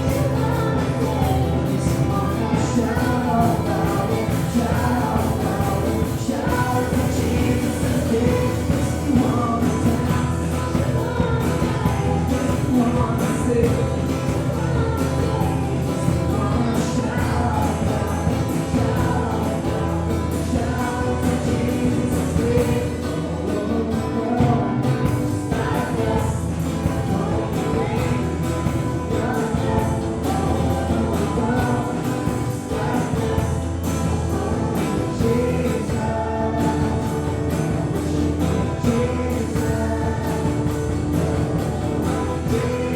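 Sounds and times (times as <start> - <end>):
gospel singers with live band: 0.0 - 42.9.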